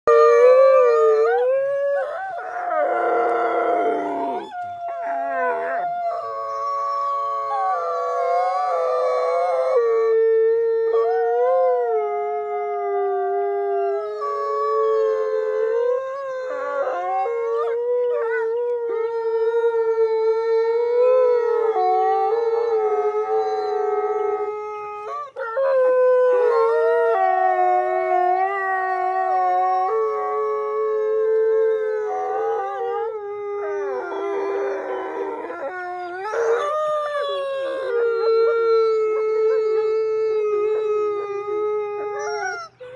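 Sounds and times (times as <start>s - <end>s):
wolves howling in chorus: 0.1s - 42.9s.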